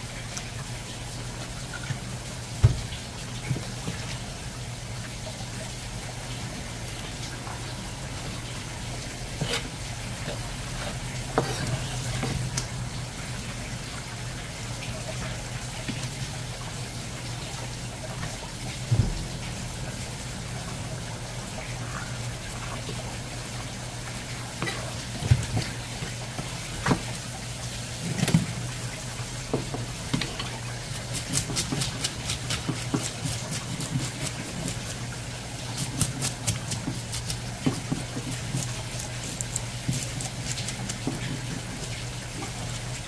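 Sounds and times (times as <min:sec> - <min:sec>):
running water: 0:00.0 - 0:43.0.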